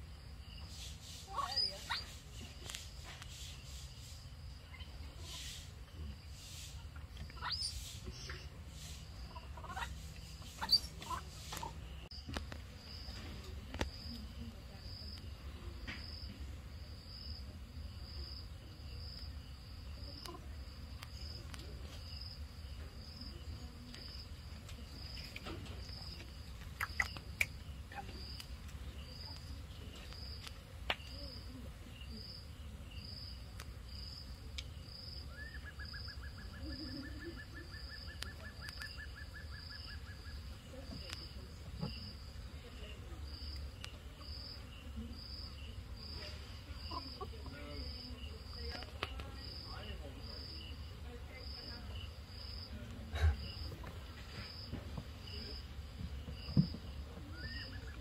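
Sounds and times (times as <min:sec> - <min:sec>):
insect chirping: 0:00.0 - 0:58.0.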